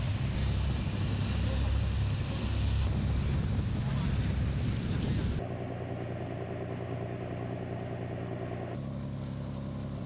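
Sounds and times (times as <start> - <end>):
motorboat engine humming: 0.0 - 10.0.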